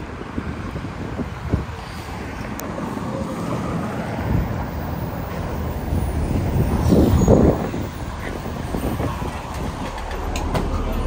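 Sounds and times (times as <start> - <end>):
wind buffeting microphone: 0.0 - 2.8, 4.1 - 11.0
road traffic rumble: 0.0 - 11.0.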